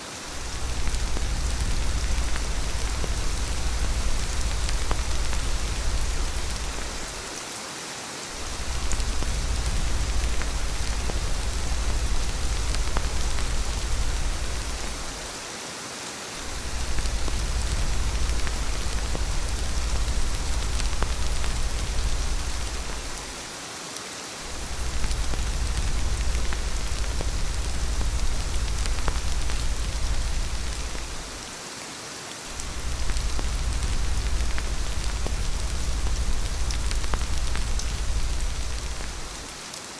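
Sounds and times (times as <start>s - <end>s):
rain hissing: 0.0s - 39.9s
deep low rumble: 0.4s - 7.2s, 8.4s - 15.4s, 16.5s - 23.4s, 24.5s - 31.4s, 32.6s - 39.5s.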